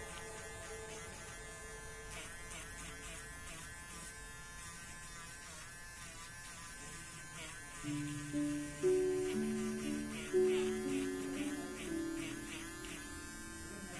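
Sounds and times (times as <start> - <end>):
electric eraser buzzing: 0.0 - 13.9.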